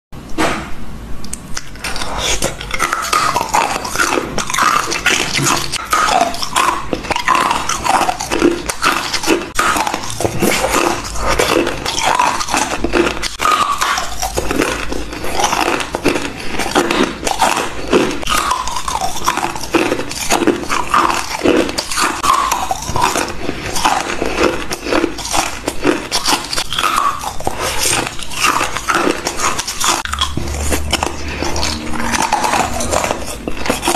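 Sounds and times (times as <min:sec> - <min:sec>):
ice being chewed crunching: 0:01.2 - 0:33.9.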